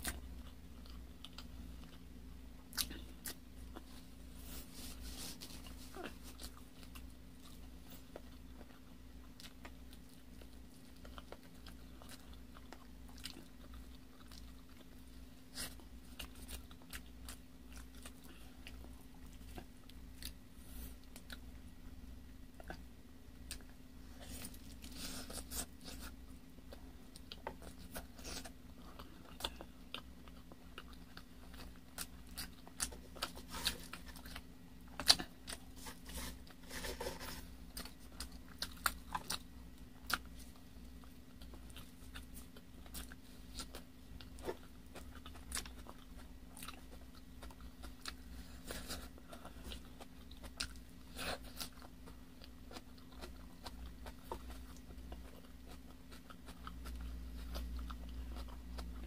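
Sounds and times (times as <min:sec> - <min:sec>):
biting and chewing meat: 0:00.0 - 0:59.0.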